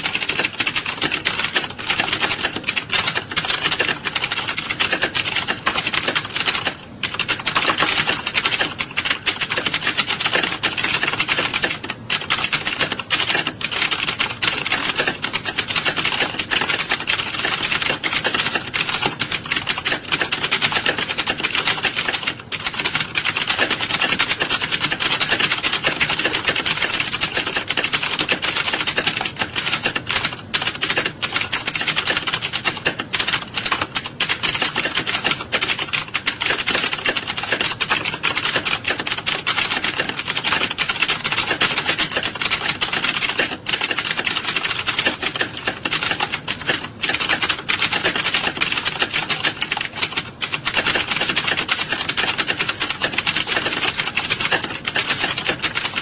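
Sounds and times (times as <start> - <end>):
keyboards typing clatter: 0.0 - 56.0.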